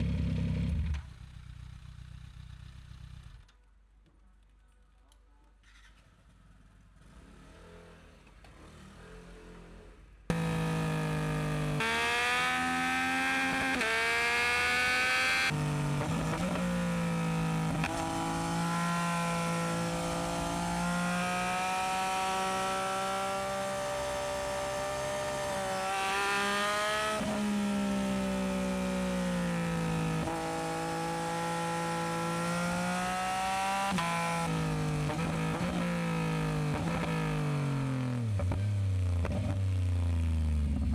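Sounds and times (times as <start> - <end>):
motorcycle engine accelerating: 0.0 - 3.4, 6.4 - 40.9.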